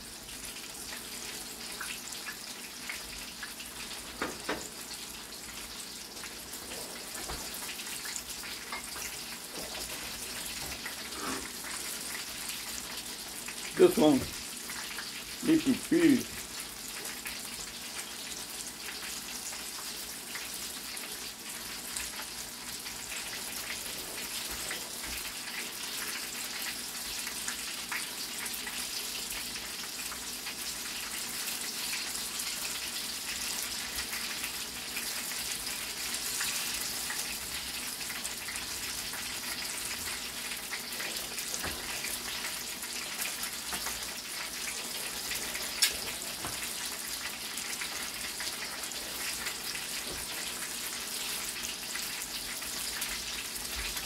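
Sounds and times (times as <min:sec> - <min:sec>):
wok crackling: 0:00.7 - 0:27.7, 0:31.6 - 0:54.0.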